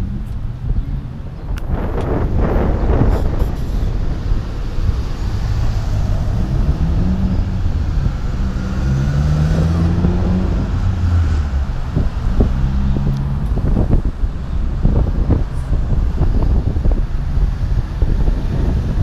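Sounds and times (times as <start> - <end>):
car engines passing: 0.0 - 19.0
wind rumble on microphone: 0.0 - 19.0.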